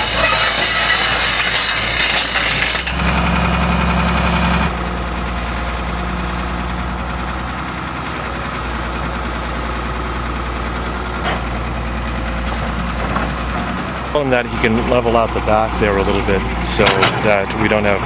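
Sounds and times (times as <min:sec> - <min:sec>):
heavy machinery engine running: 0:00.0 - 0:18.0.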